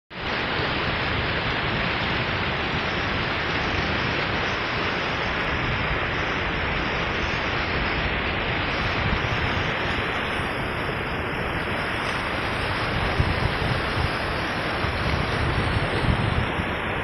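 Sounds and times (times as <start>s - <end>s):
waterfall rushing: 0.2s - 17.0s.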